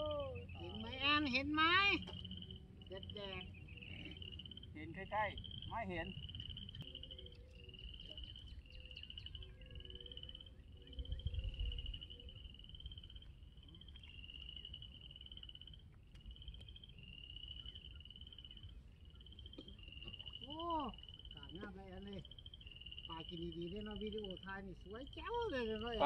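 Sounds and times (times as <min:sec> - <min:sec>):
frogs trilling in chorus: 0:00.0 - 0:26.0.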